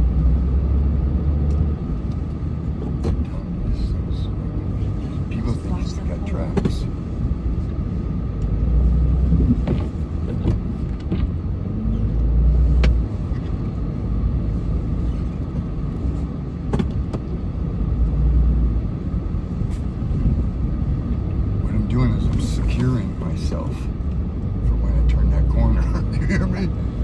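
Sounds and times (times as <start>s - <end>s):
truck engine rumbling: 0.0s - 27.0s.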